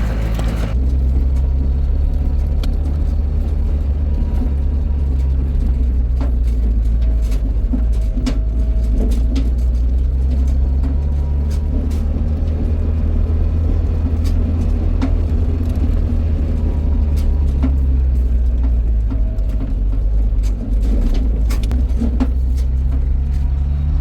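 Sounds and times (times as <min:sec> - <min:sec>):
light knocks and rattles: 0:00.0 - 0:24.0
vehicle engine drone: 0:00.0 - 0:24.0.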